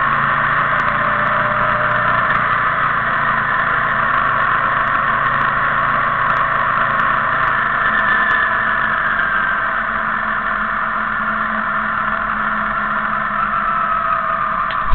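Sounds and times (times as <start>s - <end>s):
motorcycle engine running: 0.0s - 14.9s
road noise: 0.0s - 14.9s.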